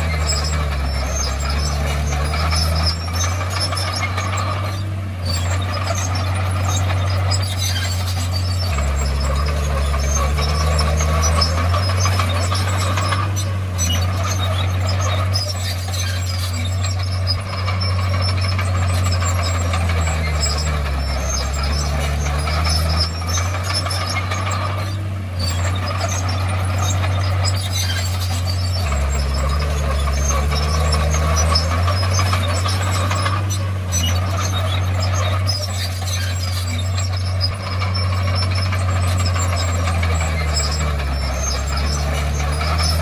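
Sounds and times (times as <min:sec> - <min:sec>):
bulldozer diesel engine under load: 0:00.0 - 0:43.0
mechanical rattle and whine: 0:00.0 - 0:43.0.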